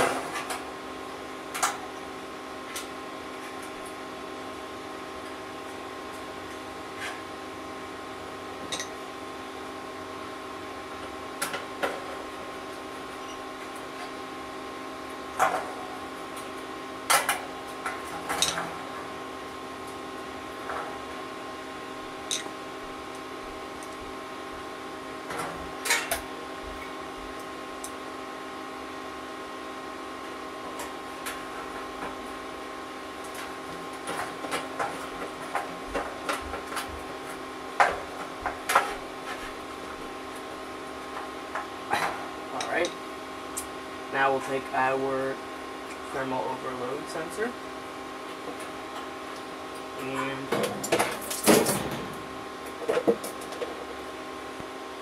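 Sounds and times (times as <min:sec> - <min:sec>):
steady droning hum: 0:00.0 - 0:55.0.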